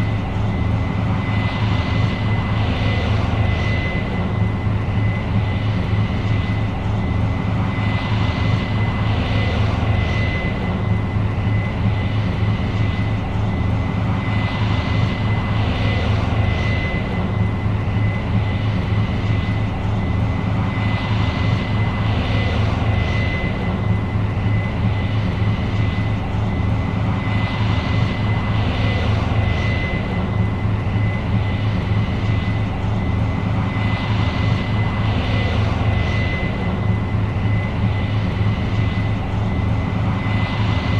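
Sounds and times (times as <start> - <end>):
combine engine drone with whine: 0.0 - 40.9.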